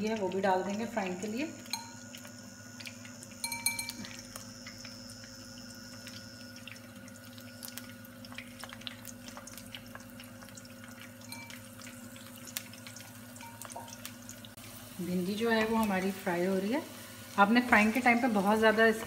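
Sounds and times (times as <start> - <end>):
okra sizzling in hot oil: 0.0 - 19.0.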